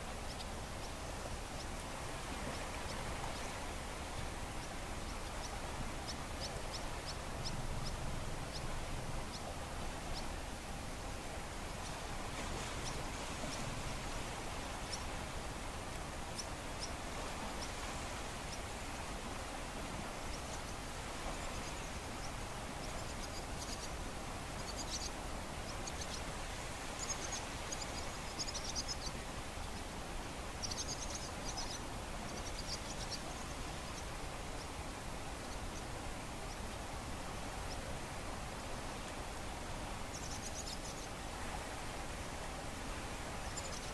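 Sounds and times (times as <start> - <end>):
gentle sea wash: 0.0 - 43.9.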